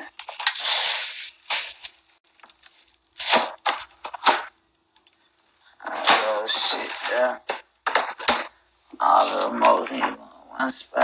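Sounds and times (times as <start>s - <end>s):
plastic wrappers crinkling: 0.0s - 9.9s.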